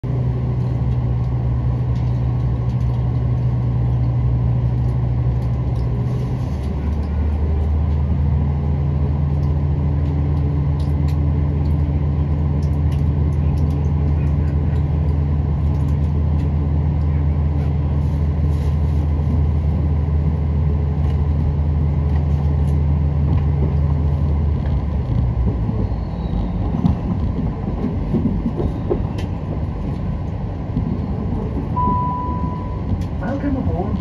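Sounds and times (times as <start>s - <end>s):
diesel train engine droning: 0.0s - 34.0s.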